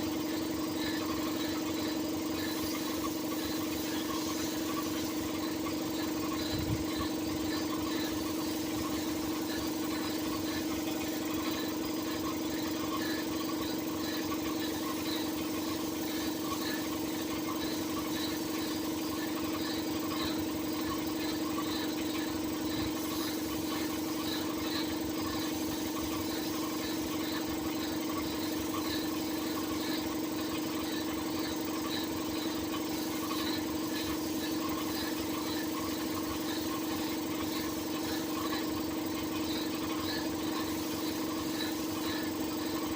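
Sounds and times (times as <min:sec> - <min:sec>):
compressor humming: 0:00.0 - 0:42.9.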